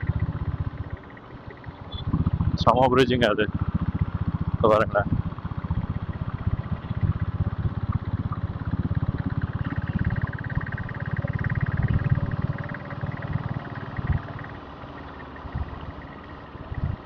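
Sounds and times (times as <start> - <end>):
motorcycle diesel engine running: 0.0 - 17.0.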